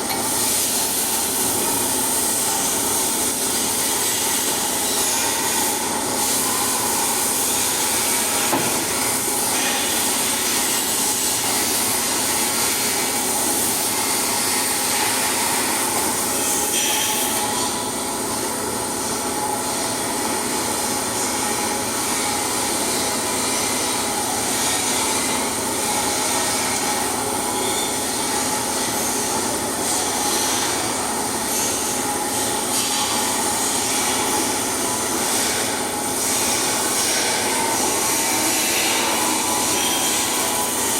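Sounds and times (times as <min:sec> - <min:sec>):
welding arc sizzling: 0:00.0 - 0:40.9.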